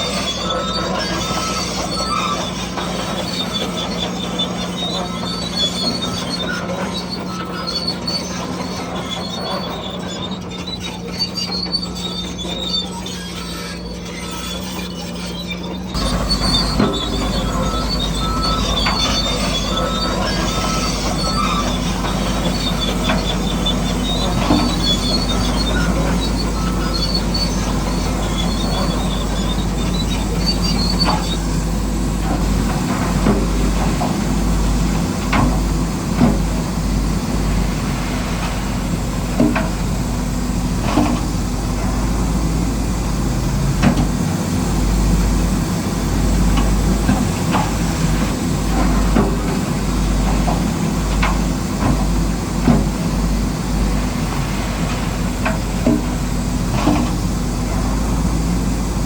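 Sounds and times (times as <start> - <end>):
electric motors whirring: 0.0 - 59.0.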